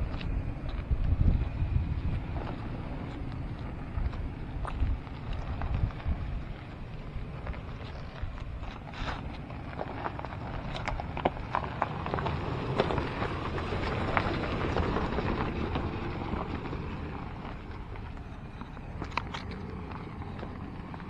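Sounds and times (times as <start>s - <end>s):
tyres crackling on track: 0.0s - 21.0s
vehicle rumble on rough track: 0.0s - 21.0s.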